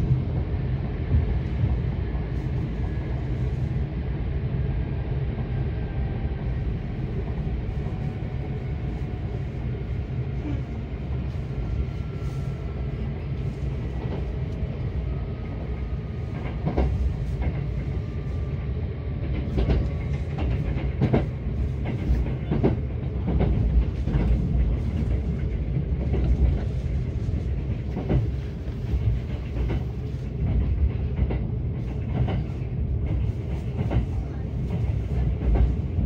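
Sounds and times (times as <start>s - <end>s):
train rumble from inside: 0.0s - 36.0s.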